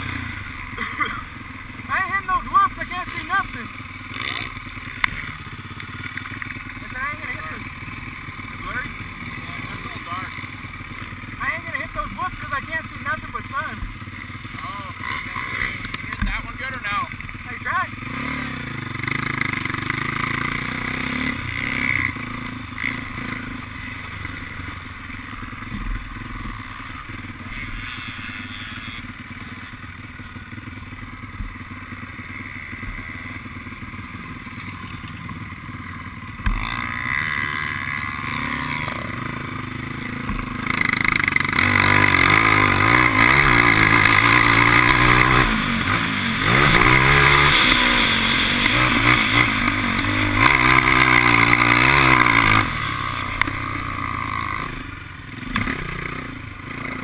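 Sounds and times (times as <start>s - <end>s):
quad engine revving: 0.0s - 29.7s, 36.3s - 57.0s
dirt bike engines: 0.0s - 57.0s.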